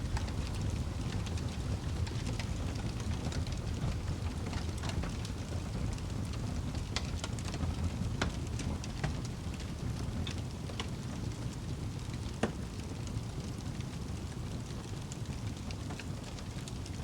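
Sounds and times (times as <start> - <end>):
burning wood crackling and popping: 0.0 - 17.0
low rumble of flames: 0.0 - 17.0.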